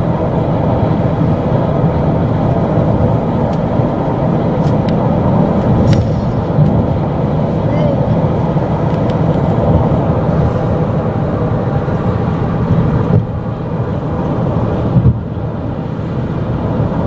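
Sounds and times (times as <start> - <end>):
van interior rumble: 0.0 - 17.0.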